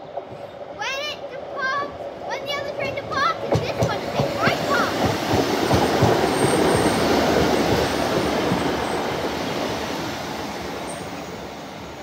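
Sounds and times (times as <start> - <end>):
diesel train engine: 0.0 - 12.0
train wheel noise: 0.0 - 12.0.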